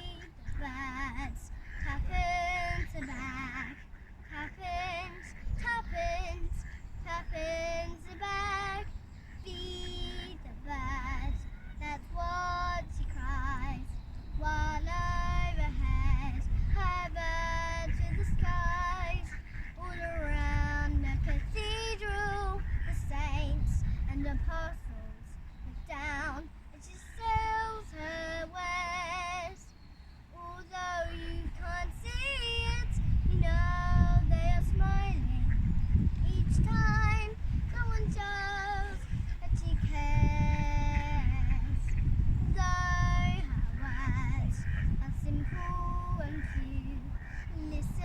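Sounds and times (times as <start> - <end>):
girl singing: 0.0 - 29.7, 30.3 - 48.0.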